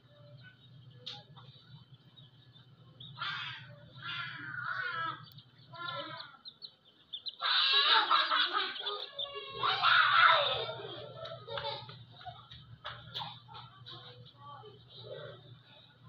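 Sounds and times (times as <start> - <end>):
hen and chicks calling: 0.0 - 13.9.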